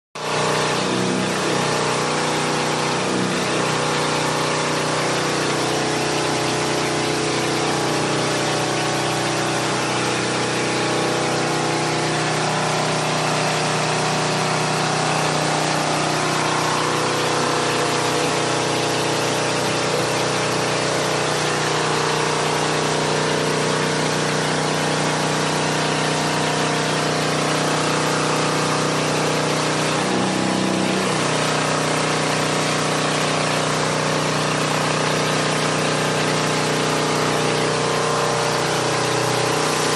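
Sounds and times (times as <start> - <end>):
pressure washer engine and pump: 0.2 - 39.9.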